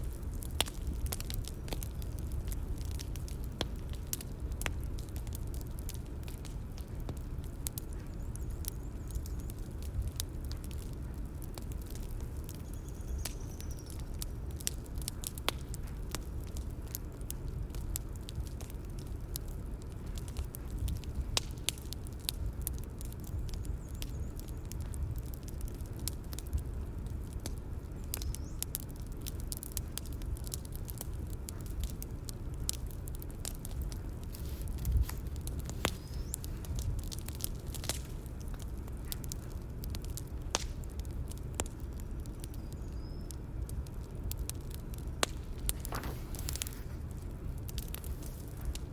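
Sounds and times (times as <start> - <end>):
burning wood popping and snapping: 0.0 - 48.9
low rumble of flame: 0.0 - 48.9.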